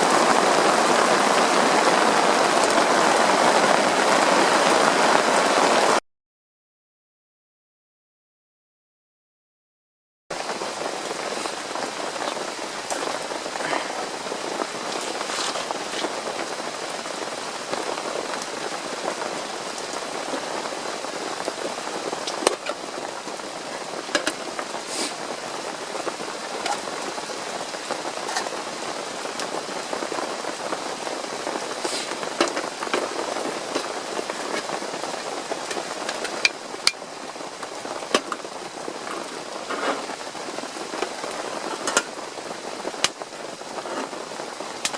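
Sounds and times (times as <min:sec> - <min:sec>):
steady rain falling: 0:00.0 - 0:06.0, 0:10.3 - 0:44.9.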